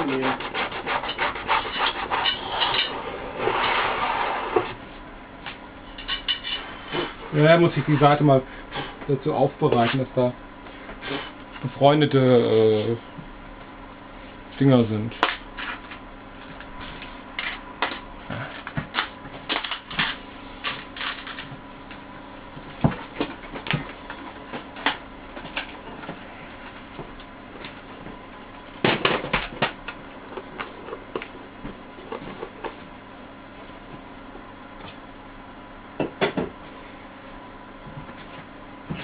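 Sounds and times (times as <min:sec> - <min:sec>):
electrical hum: 0:00.0 - 0:39.0.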